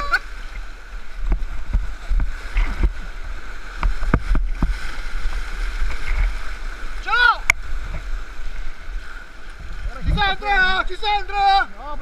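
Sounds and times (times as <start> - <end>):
water buffeting microphone: 0.0 - 12.0.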